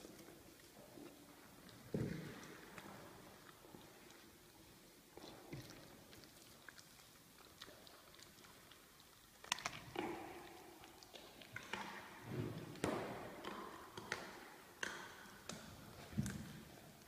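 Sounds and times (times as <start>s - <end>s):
lion cub chewing and licking meat: 0.0s - 17.0s.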